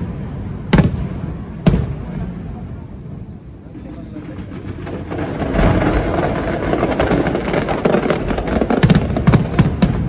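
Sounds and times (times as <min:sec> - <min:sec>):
loud firework bangs: 0:00.0 - 0:03.0, 0:03.7 - 0:10.0
fireworks crackling: 0:00.0 - 0:10.0.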